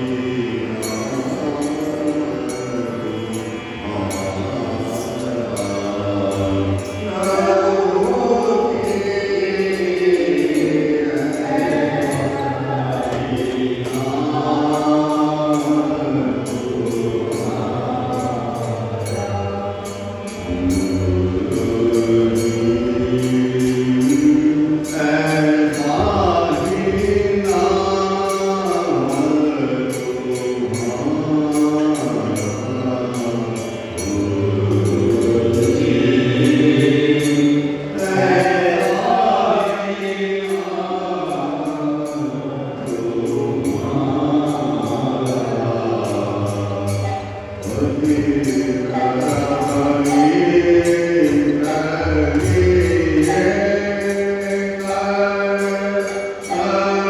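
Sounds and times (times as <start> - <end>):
harmonium chords: 0.0 - 57.0
man singing devotional song: 0.0 - 57.0.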